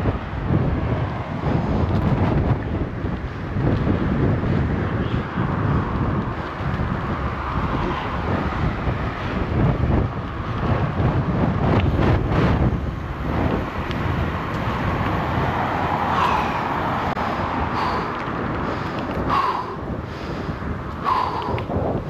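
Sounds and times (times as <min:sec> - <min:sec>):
city road traffic: 0:00.0 - 0:22.0
vehicles passing: 0:00.0 - 0:22.0
wind rumble on microphone: 0:00.0 - 0:22.0.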